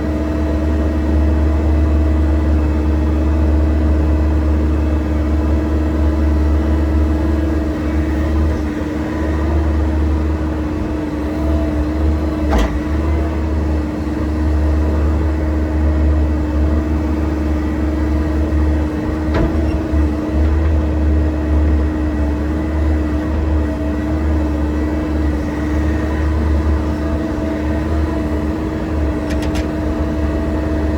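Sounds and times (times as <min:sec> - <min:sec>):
excavator diesel engine drone: 0:00.0 - 0:30.9.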